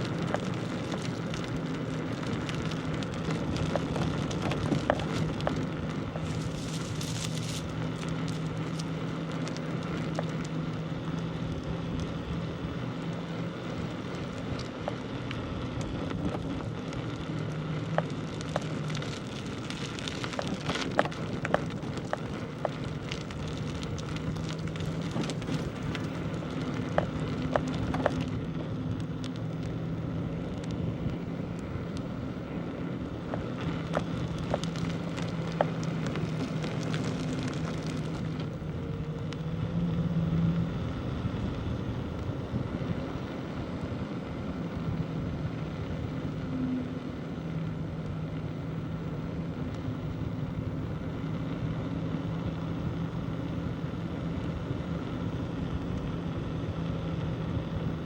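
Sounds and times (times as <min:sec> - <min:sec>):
bicycle tyres rolling on rough road: 0:00.0 - 0:58.0
small clicks and crackles: 0:00.0 - 0:58.0
steady low hum: 0:00.0 - 0:58.0.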